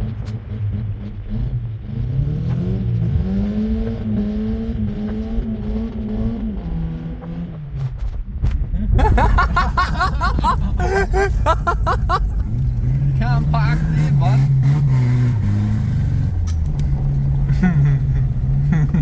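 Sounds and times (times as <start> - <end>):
car engine accelerating: 0.0 - 8.3, 9.0 - 19.0.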